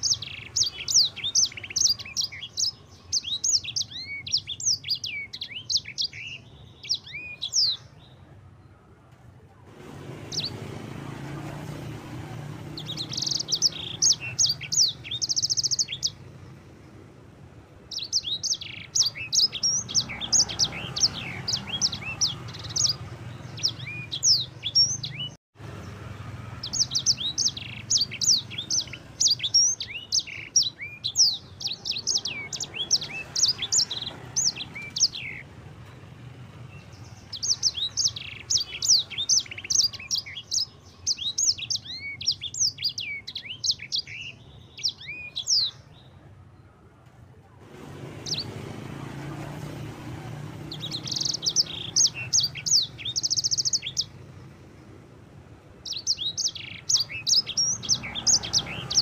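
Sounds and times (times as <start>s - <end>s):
finch singing: 0.0s - 8.2s, 9.8s - 16.6s, 17.9s - 46.2s, 47.8s - 54.6s, 55.8s - 59.0s.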